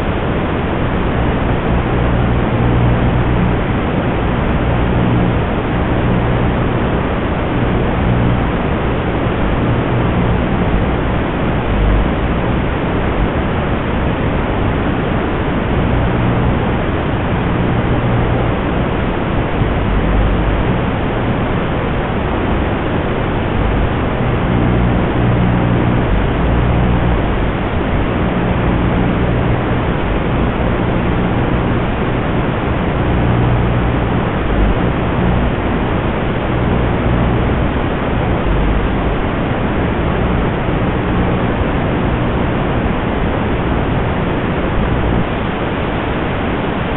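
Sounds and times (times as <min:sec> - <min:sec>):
low hum: 0:00.0 - 0:46.9
static hiss: 0:00.0 - 0:46.9.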